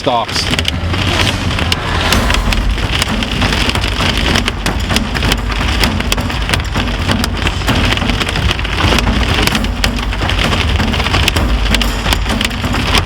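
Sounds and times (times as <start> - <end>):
car rumbling on road: 0.0 - 13.0
hail and rain hitting a car: 0.0 - 13.0.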